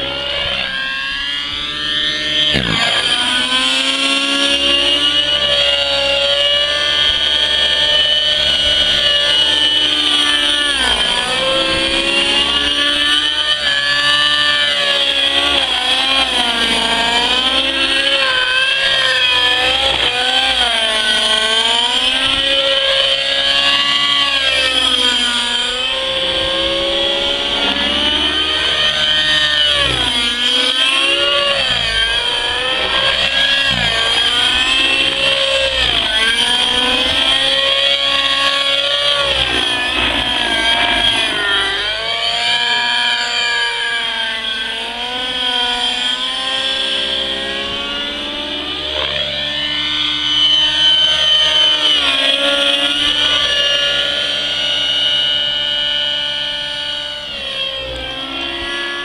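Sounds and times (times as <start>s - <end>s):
model helicopter engine and rotors: 0.0s - 59.0s
steady high whine: 0.0s - 59.0s.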